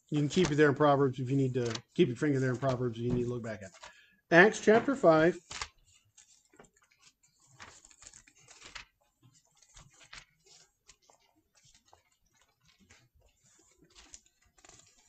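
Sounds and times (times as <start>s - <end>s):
pages rustling: 0.1s - 15.0s.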